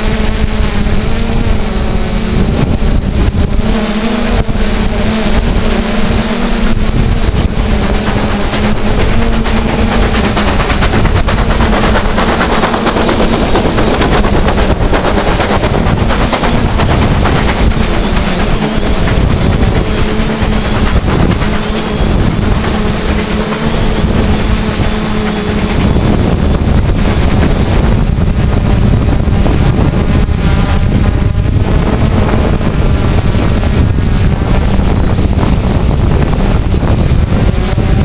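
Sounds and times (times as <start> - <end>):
drone motors humming: 0.0 - 38.0
wind on microphone: 0.0 - 38.0.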